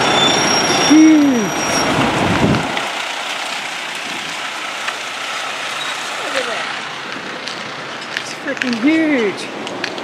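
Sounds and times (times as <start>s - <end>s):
diesel truck engine rumble: 0.0s - 10.0s
traffic hiss: 0.0s - 10.0s.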